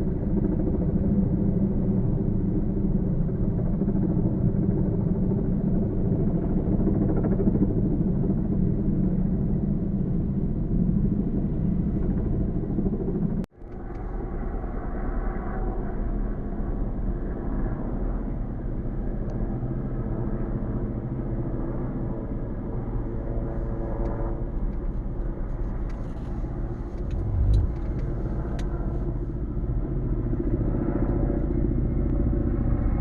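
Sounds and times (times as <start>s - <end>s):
helicopter rotor and engine rumble: 0.0s - 33.0s.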